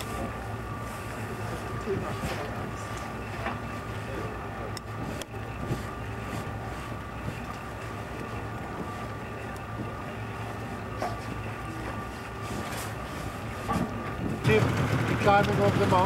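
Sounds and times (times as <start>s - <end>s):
ship engine drone: 0.0s - 16.0s.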